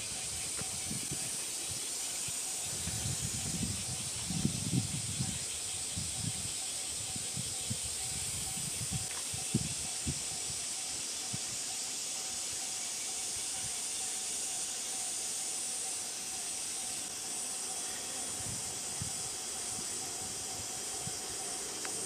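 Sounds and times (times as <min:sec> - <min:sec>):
cicada chorus: 0:00.0 - 0:22.0.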